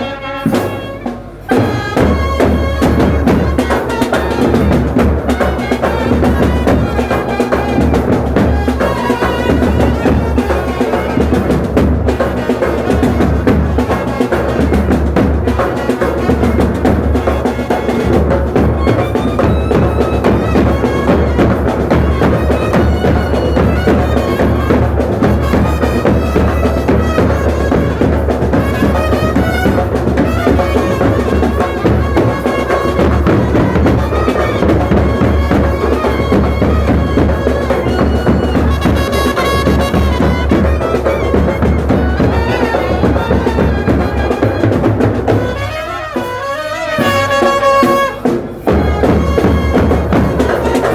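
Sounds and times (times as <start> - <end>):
reedy wind instrument melody: 0.0 - 50.9
fast dense drumming: 0.4 - 50.9.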